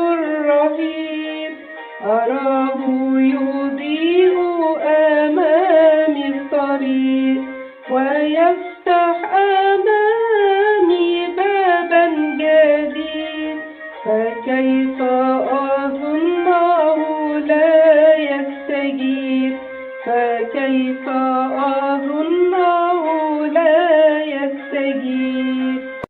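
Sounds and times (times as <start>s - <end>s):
held instrumental notes: 0.0s - 26.0s
woman singing ornamented line: 0.0s - 26.0s.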